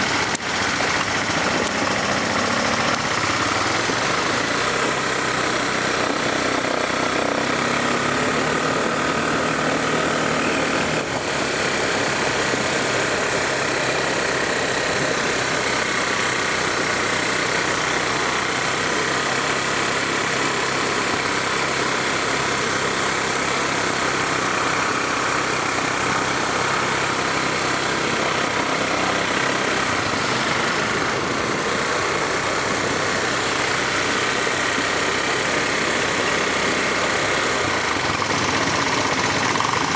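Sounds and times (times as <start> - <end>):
atv engine running: 0.0 - 39.9
constant rushing noise: 0.0 - 39.9.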